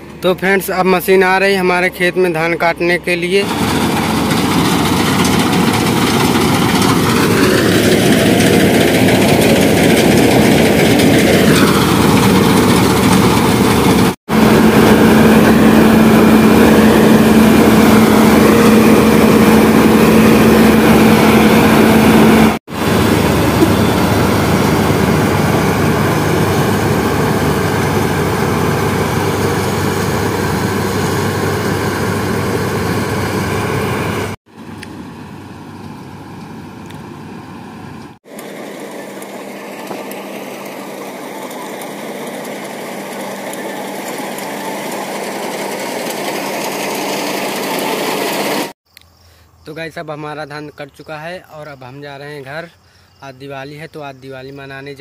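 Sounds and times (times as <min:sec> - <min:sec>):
combine harvester droning: 0:00.0 - 0:48.8.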